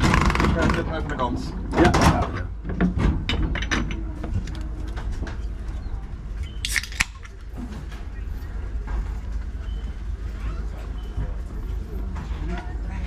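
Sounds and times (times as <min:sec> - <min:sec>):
tram rumble: 0:00.0 - 0:06.6, 0:07.3 - 0:13.0.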